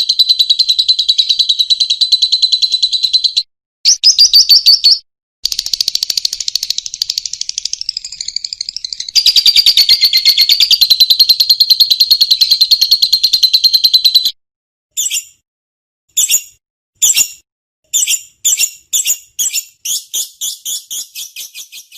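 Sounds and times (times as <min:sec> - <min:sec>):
bird chattering trill: 0:00.0 - 0:14.3, 0:15.0 - 0:15.4, 0:16.2 - 0:21.9
bird sharp chirps: 0:00.0 - 0:15.4, 0:16.1 - 0:21.9.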